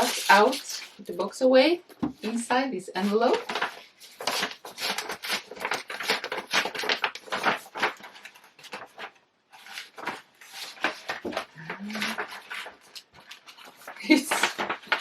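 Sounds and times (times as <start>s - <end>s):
paper packaging rustling: 0.0s - 1.4s, 3.0s - 15.0s.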